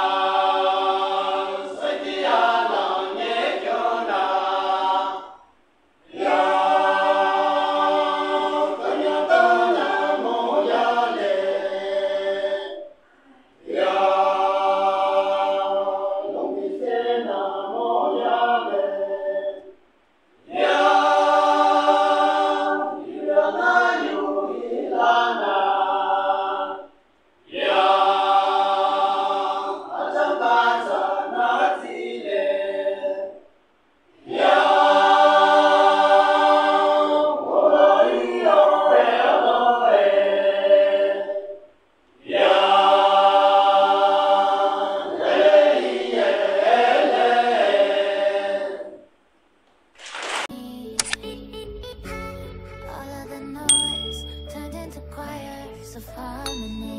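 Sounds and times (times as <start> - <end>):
men's choir singing a cappella: 0.0 - 5.4, 6.1 - 13.0, 13.6 - 19.8, 20.4 - 33.5, 34.2 - 49.1.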